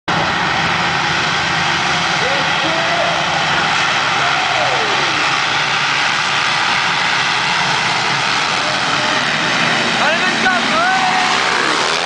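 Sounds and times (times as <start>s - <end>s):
motocross bikes racing: 0.1s - 12.0s.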